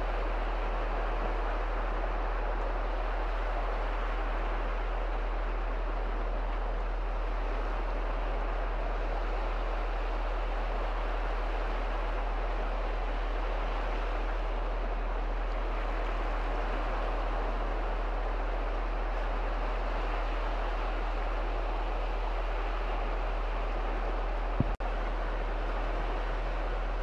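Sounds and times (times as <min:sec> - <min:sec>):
small waves washing into shallows: 0:00.0 - 0:27.0.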